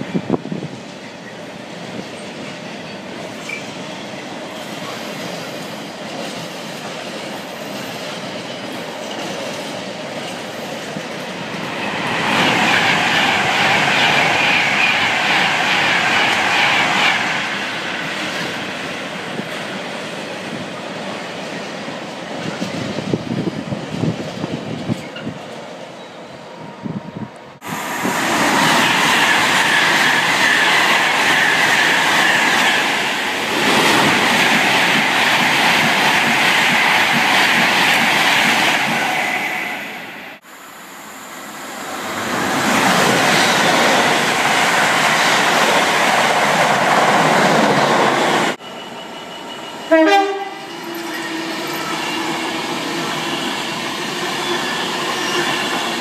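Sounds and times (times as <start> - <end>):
electric train passing: 0.0 - 56.0
train rushing through at speed: 0.0 - 56.0.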